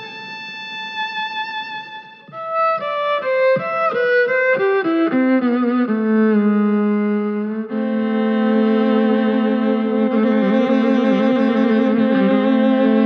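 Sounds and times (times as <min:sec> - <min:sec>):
violin playing a melody: 0:00.0 - 0:13.0.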